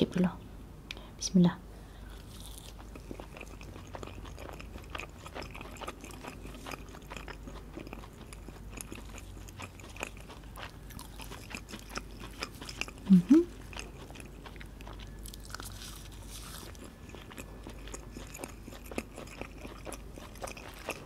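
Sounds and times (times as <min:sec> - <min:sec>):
crunchy chewing of fried fish: 0:02.0 - 0:21.0.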